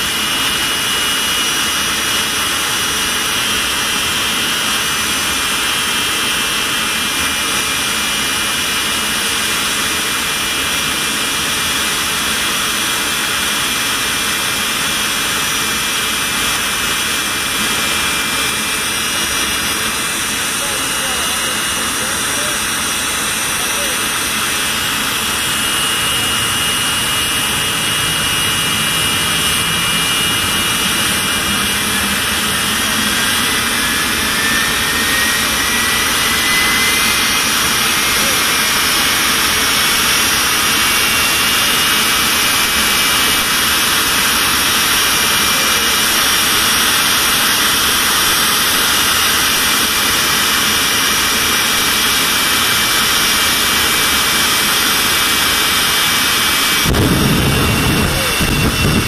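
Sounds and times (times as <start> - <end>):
jet engine rush and whine: 0.0 - 59.0.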